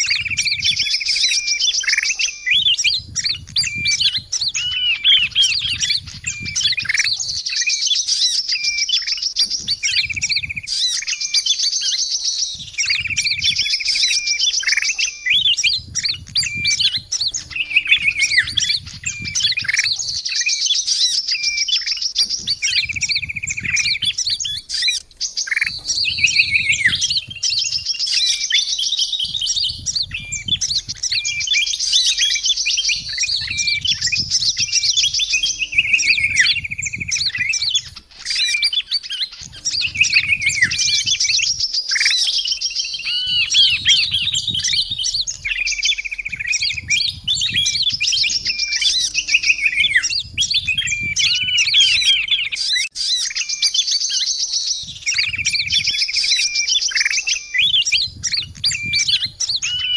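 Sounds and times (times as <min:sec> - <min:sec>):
bulbul calls: 0:00.0 - 0:59.9
songbirds chirping: 0:00.0 - 0:59.9.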